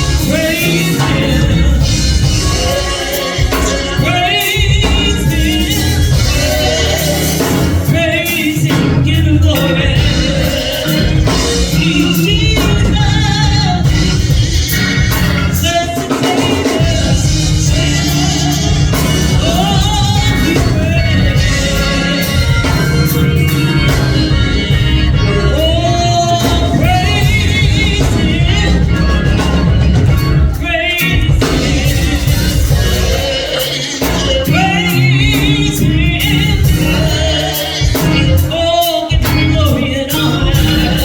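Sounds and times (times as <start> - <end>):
gospel singing: 0.0 - 41.0
live band playing: 0.0 - 41.0.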